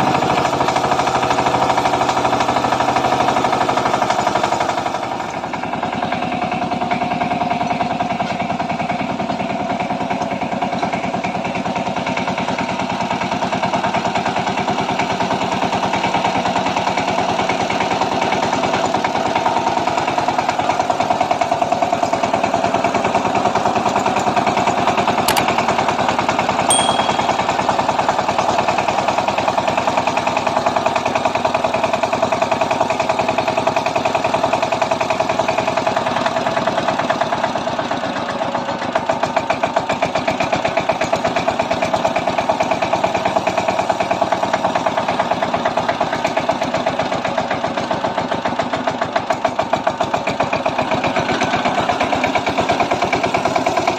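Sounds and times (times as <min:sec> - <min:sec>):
diesel tiller engine chugging: 0:00.0 - 0:25.4, 0:29.0 - 0:53.9.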